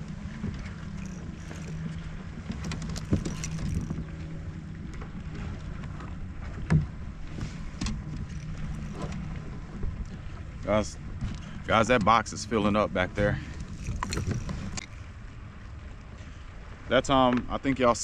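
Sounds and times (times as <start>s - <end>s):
steady low hum: 0.0s - 15.8s
light wind: 0.0s - 18.0s
water lapping against hull: 0.0s - 18.0s.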